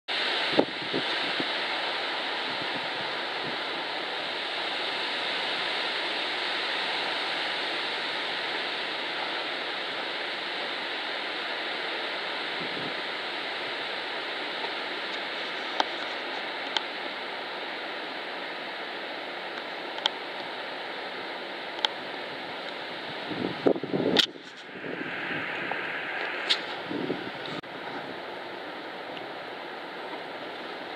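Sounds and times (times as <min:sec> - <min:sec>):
wind rushing through leaves: 0:00.1 - 0:30.9.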